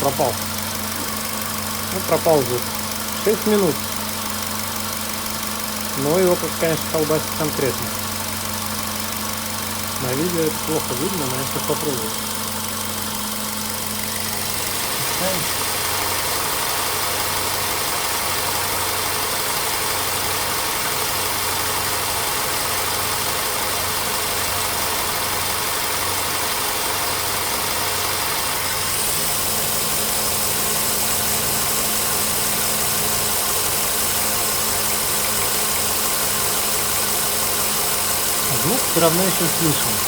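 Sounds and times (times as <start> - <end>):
car engine idling rough: 0.0 - 40.0.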